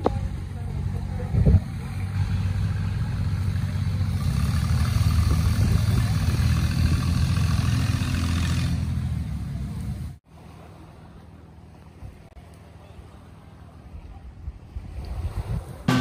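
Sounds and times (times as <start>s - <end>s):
low engine hum: 0.0s - 14.1s.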